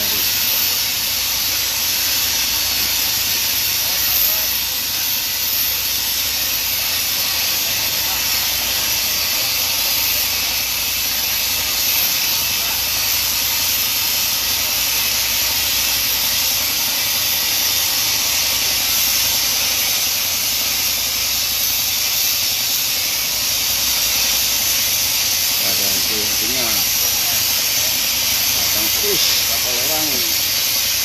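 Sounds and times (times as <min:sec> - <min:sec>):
steady loud hiss: 0:00.0 - 0:31.0.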